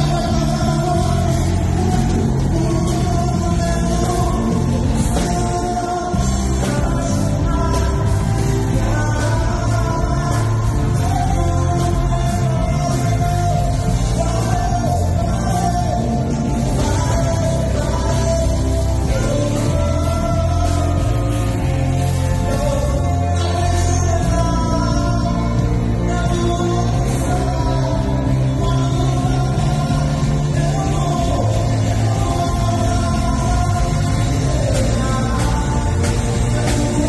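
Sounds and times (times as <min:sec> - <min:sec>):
live band music with singing: 0:00.0 - 0:37.0
steady bass line: 0:00.0 - 0:37.0.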